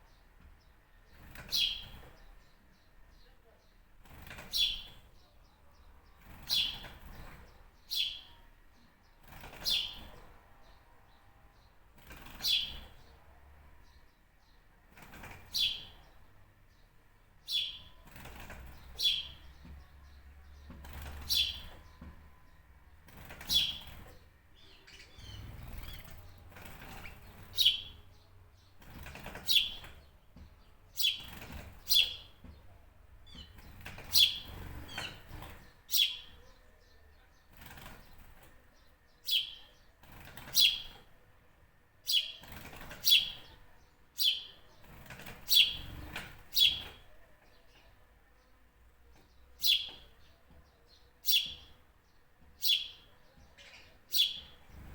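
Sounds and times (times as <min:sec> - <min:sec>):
bird chirping: 0:00.0 - 0:41.2, 0:42.0 - 0:54.9.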